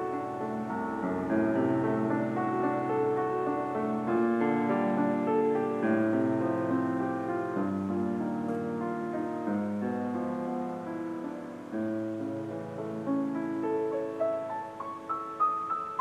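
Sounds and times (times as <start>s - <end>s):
slow piano piece: 0.0s - 16.0s.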